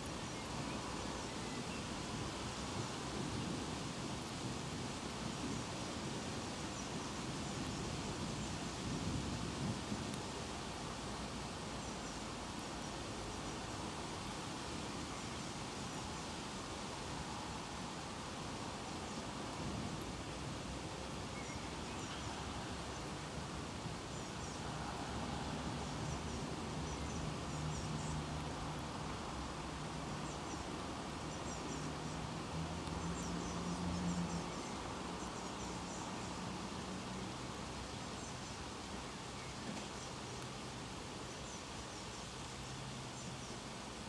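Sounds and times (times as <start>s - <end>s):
songbirds chirping: 0.0s - 44.0s
steady outdoor hiss: 0.0s - 44.0s.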